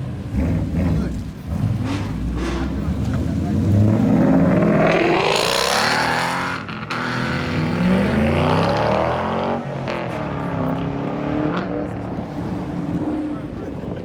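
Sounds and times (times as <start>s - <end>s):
car engine revving hard: 0.1s - 14.0s.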